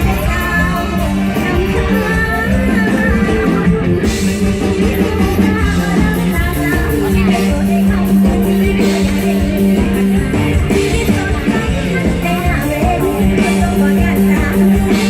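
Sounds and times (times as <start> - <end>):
live band music: 0.0 - 15.0
person singing: 0.0 - 15.0.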